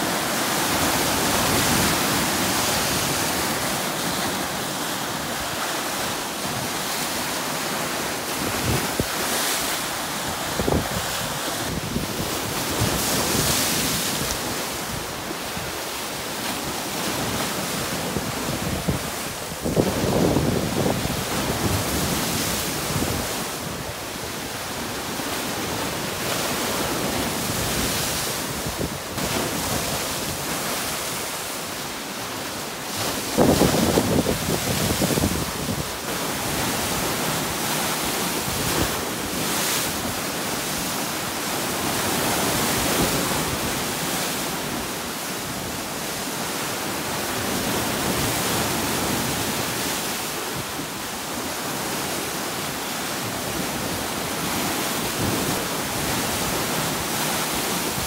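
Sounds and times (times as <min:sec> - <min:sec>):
waves crashing on rocks: 0:00.0 - 0:58.0.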